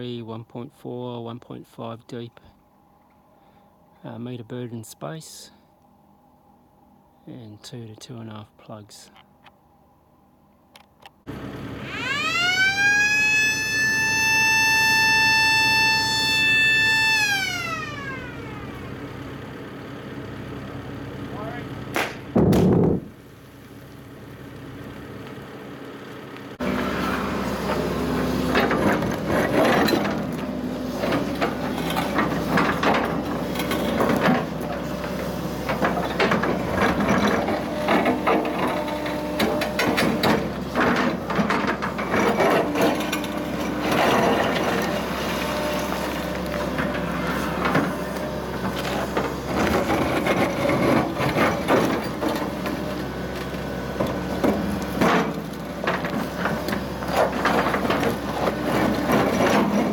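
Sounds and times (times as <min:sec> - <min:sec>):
excavator engine under load: 0:10.8 - 0:59.9.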